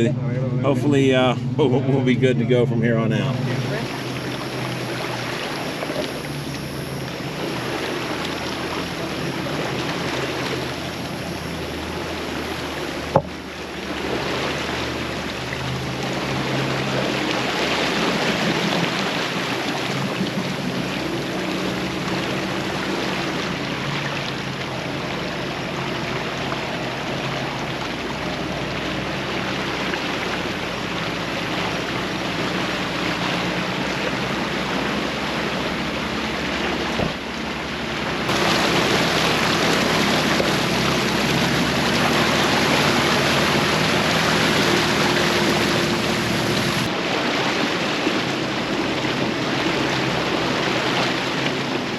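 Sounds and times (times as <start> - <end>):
vehicle engine running: 0.0 - 47.0
water rushing and sloshing: 0.0 - 51.9.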